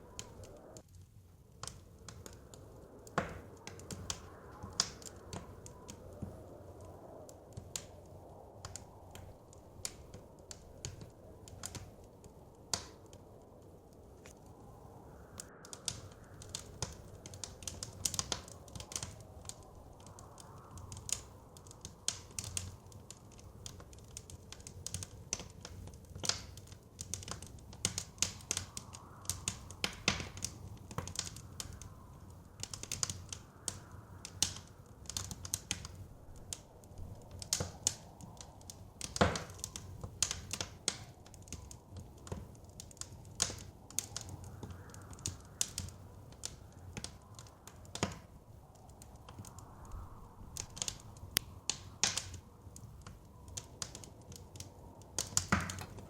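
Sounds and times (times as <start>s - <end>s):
low rumble of wind: 0.0s - 56.0s
wood fire crackling and popping: 0.0s - 56.0s.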